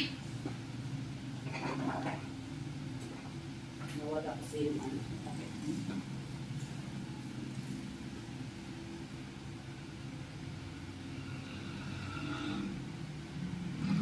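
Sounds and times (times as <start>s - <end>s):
low mechanical rumble: 0.0s - 14.0s.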